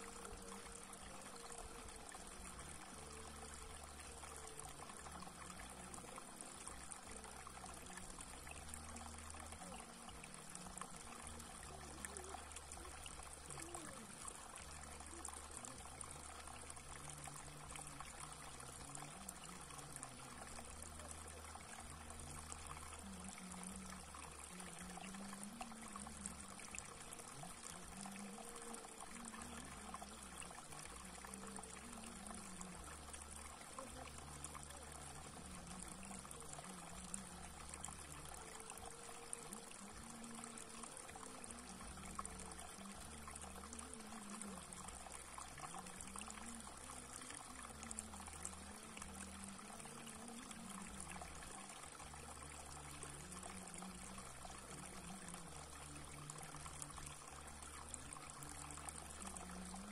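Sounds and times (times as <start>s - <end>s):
water trickling over rock: 0.0s - 59.9s.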